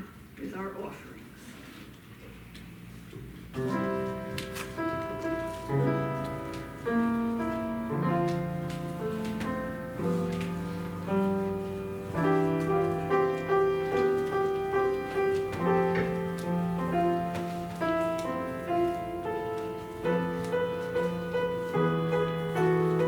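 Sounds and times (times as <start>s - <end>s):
slow piano music: 3.4s - 23.0s.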